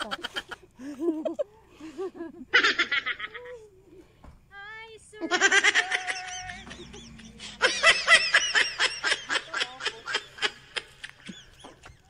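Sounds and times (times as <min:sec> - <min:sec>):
people laughing hard: 0:00.0 - 0:03.5, 0:05.2 - 0:12.0.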